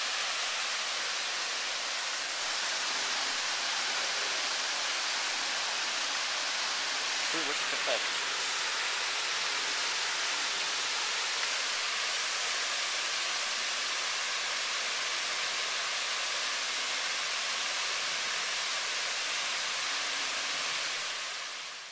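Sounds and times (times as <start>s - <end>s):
rushing water hiss: 0.0s - 21.9s.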